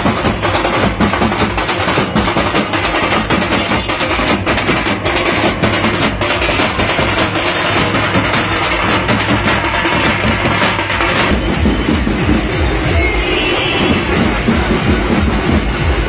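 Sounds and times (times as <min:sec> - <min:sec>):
street drum band beat: 0:00.0 - 0:16.0.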